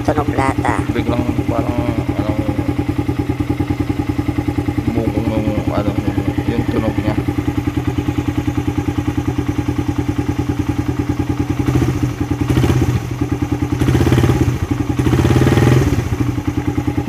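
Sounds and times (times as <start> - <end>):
motorcycle engine idling: 0.0 - 17.0
motorcycle engine revving: 0.0 - 17.0.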